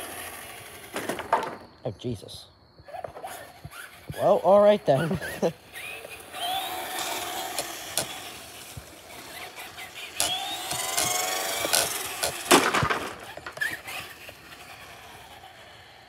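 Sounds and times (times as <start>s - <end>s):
rc car motor whining: 0.0s - 1.6s, 2.8s - 16.0s
tyre noise on asphalt: 0.0s - 1.8s, 2.8s - 16.0s.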